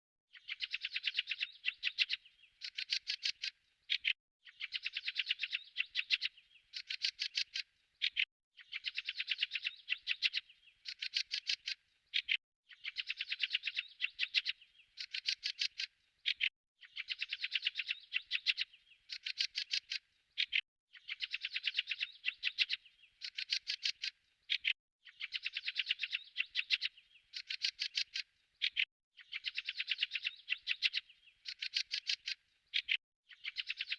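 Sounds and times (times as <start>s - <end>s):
bird chirping in trilled phrases: 0.3s - 33.9s.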